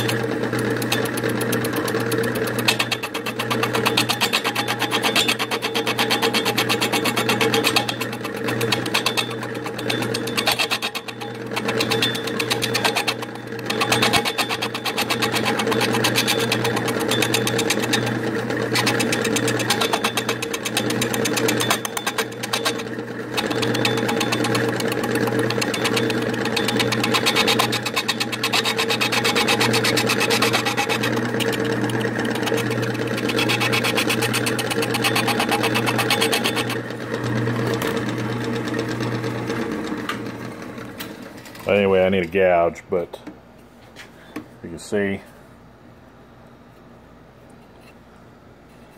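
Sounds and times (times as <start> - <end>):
lathe motor humming: 0.0 - 42.4
tool scraping spinning wood: 0.0 - 45.3, 47.5 - 48.9.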